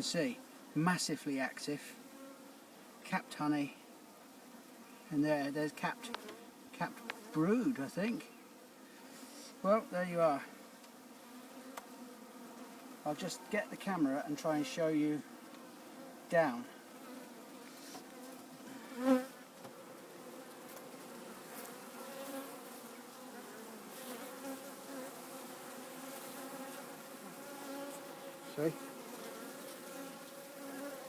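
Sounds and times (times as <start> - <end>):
honeybees buzzing: 2.0 - 31.0.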